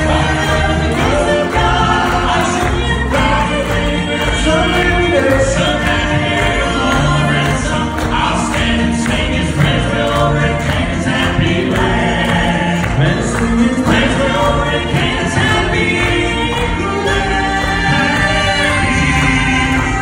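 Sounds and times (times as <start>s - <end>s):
men singing in harmony: 0.0s - 20.0s.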